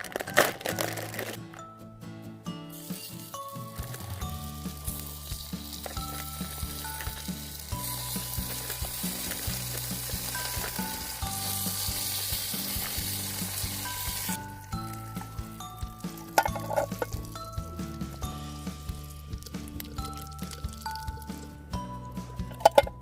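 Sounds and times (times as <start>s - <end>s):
food sizzling: 2.7s - 21.6s.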